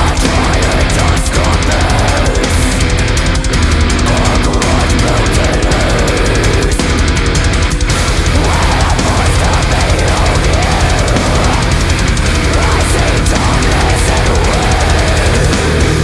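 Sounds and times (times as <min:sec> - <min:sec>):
heavy metal music: 0:00.0 - 0:16.0.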